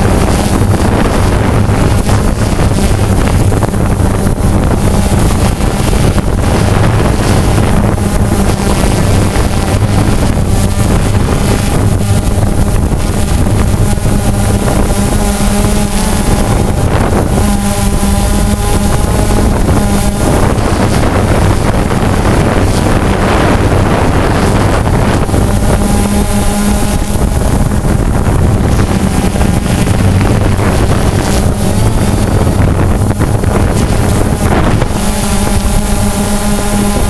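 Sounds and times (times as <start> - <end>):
drone motors buzzing: 0.0 - 37.0
wind buffeting microphone: 0.0 - 37.0.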